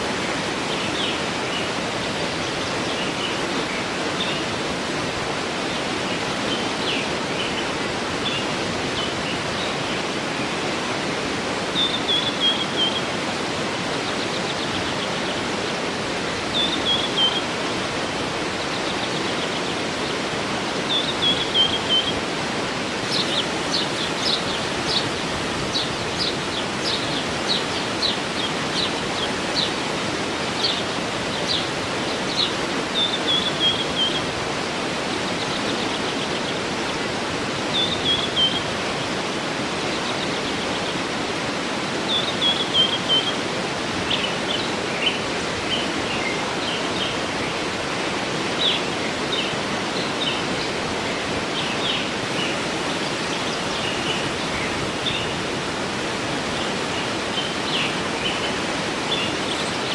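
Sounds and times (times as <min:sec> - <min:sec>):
waterfall rushing: 0:00.0 - 0:59.9
birds chirping: 0:00.3 - 0:59.9.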